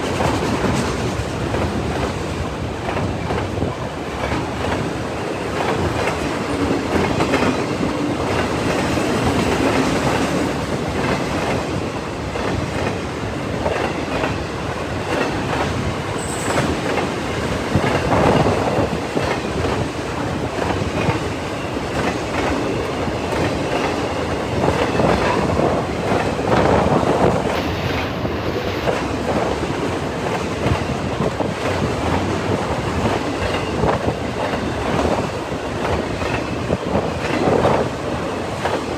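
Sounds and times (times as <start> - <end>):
freight train cars rolling past: 0.0 - 38.9
train wheels clacking over rail joints: 0.0 - 38.9.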